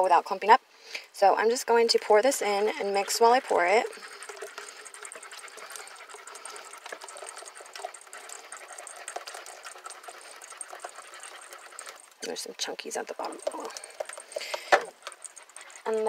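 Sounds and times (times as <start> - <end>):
light irregular ticks: 1.8 - 16.0.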